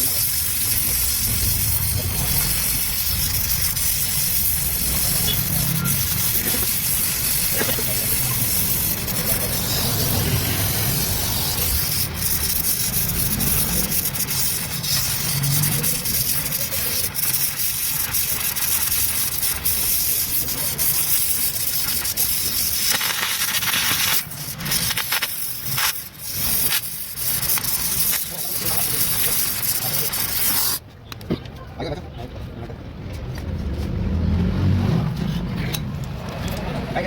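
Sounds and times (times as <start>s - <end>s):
welding torch flame hissing: 0.0s - 30.8s.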